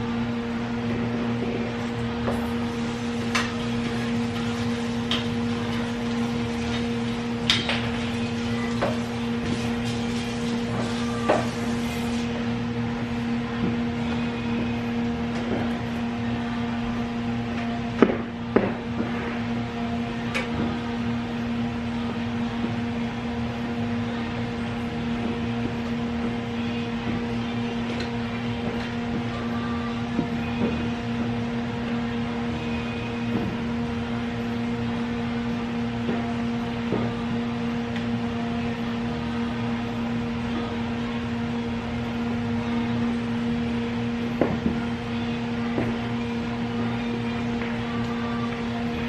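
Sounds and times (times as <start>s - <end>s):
machine hum: 0.0s - 49.0s.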